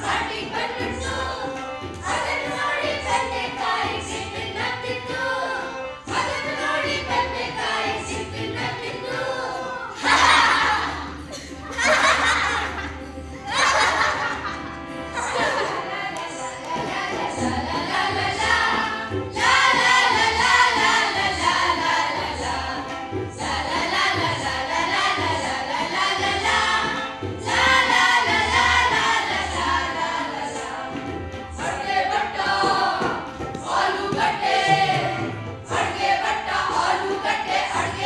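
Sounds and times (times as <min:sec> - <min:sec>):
children singing in chorus: 0:00.0 - 0:12.1, 0:15.2 - 0:38.0.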